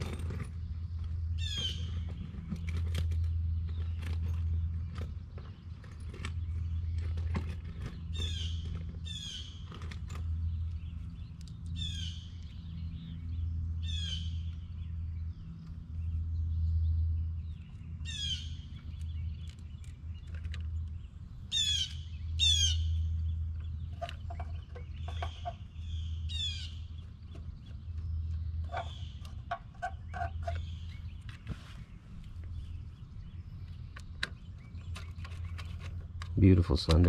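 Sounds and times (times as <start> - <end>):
steady low rumble: 0.0 - 37.0
songbird chirping: 0.2 - 37.0.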